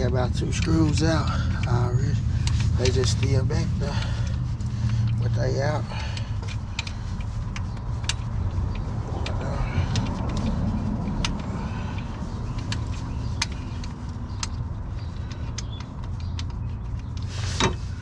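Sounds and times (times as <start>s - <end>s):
hand ratchet clicking: 0.0s - 18.0s
steady low hum: 0.0s - 18.0s.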